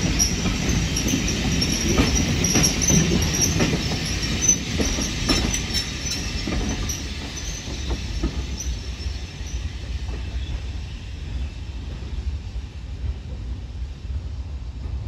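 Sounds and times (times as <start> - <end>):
train rolling away on track: 0.0 - 14.2.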